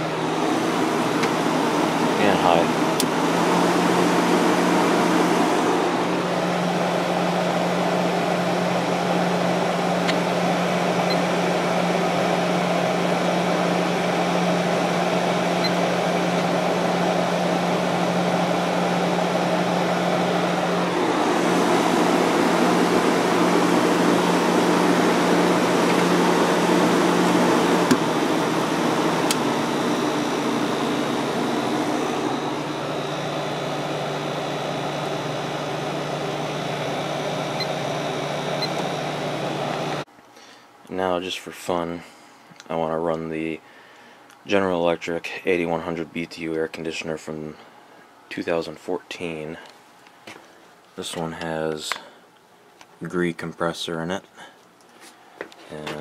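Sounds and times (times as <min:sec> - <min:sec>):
compressor humming: 0:00.0 - 0:53.2
air conditioner fan rushing: 0:00.0 - 0:56.0.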